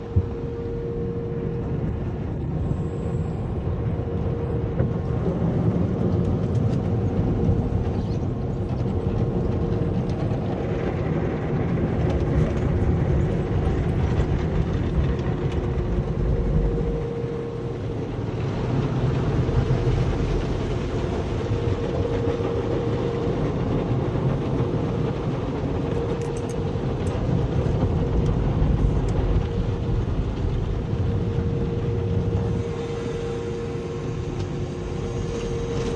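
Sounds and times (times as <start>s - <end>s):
car wash machinery rumbling: 0.0s - 35.9s.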